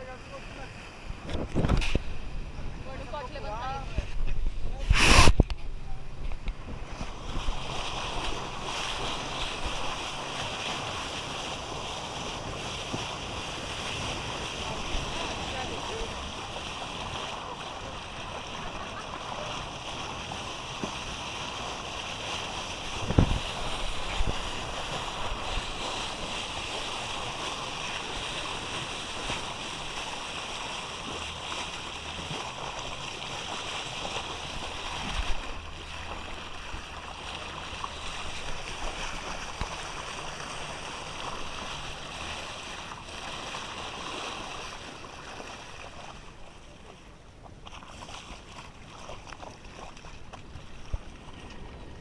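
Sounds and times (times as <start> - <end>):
water and wind rushing: 0.0 - 52.0.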